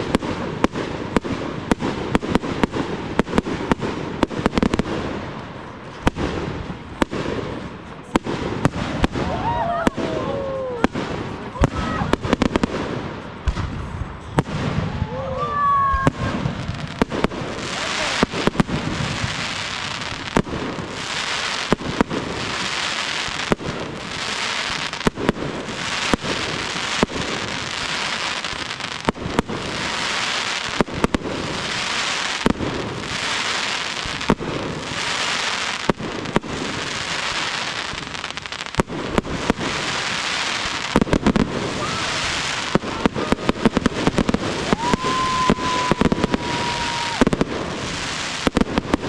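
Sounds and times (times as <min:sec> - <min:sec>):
fireworks hiss and crackle: 0:00.0 - 0:49.0.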